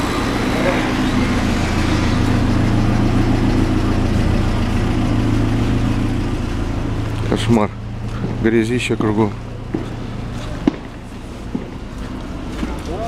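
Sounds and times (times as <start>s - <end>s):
motor engine idling: 0.0s - 13.0s.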